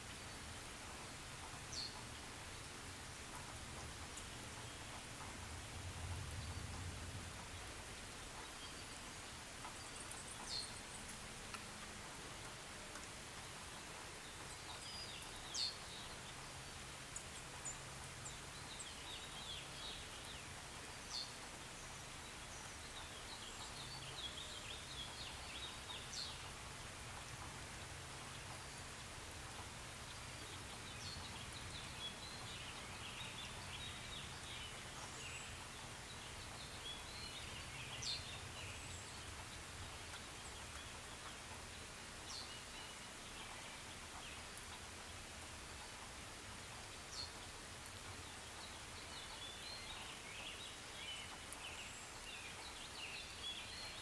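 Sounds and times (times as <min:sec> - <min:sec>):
light rain hiss: 0:00.0 - 0:54.0.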